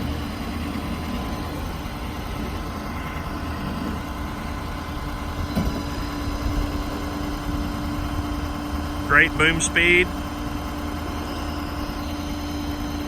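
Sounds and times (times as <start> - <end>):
diesel truck engine idling: 0.2 - 13.0.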